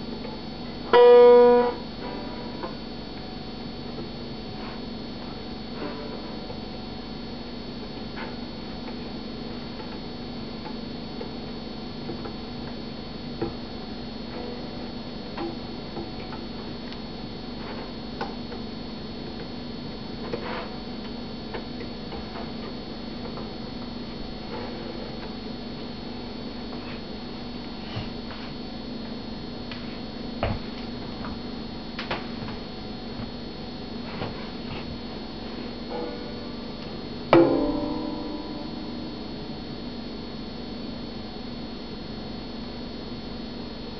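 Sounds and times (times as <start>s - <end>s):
background hum: 0.0s - 43.9s.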